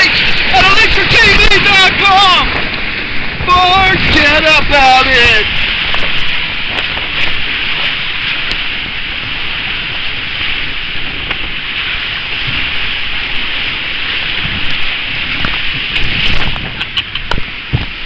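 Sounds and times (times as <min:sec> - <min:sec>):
water rushing along slide flume: 0:00.0 - 0:18.0
water splashing: 0:00.0 - 0:18.0.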